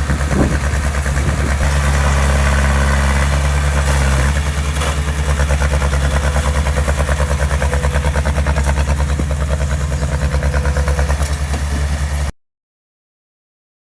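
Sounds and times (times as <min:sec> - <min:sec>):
heavy diesel engine pulsing: 0:00.0 - 0:12.3.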